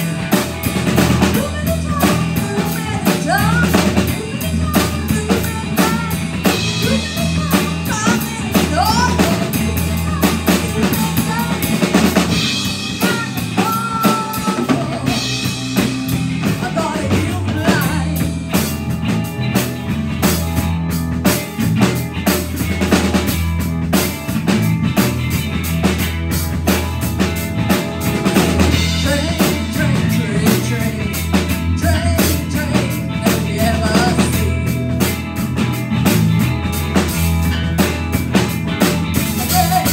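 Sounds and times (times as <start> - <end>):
drum kit beat: 0.0 - 39.9
electric bass: 0.0 - 39.9
electric guitar: 0.0 - 39.9
keyboard: 0.0 - 39.9.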